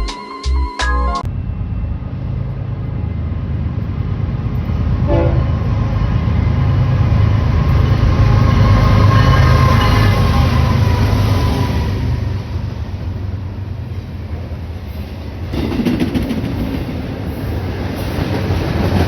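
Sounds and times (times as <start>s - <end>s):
train rumbling: 1.2s - 19.0s.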